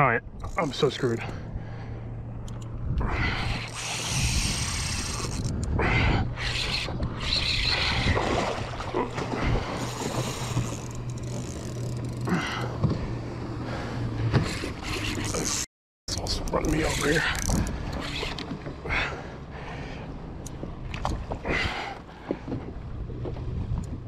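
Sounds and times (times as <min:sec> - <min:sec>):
water splashing and churning: 0:03.0 - 0:24.0.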